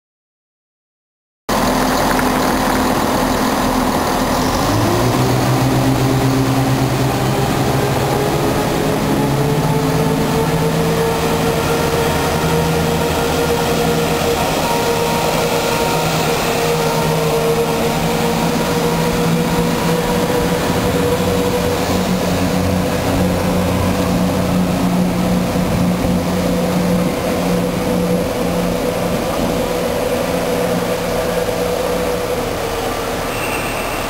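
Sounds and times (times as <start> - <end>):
diesel train engine howl: 1.5 - 34.0
low engine rumble: 1.5 - 34.0
train wheel noise: 1.5 - 34.0.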